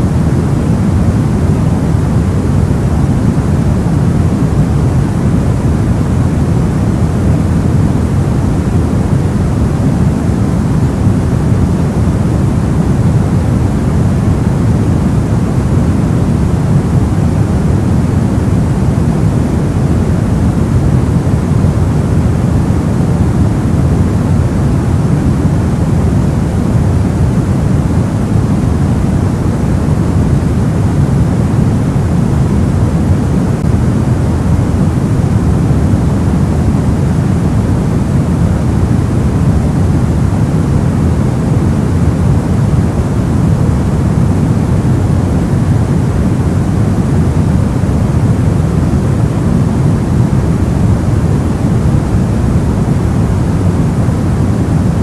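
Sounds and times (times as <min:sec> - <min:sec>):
soft white noise: 0:00.0 - 0:55.0.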